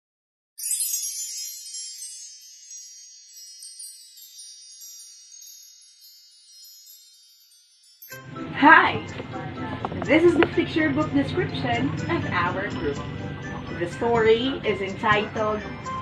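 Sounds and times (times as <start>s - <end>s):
high chimes ringing: 0.6s - 16.0s.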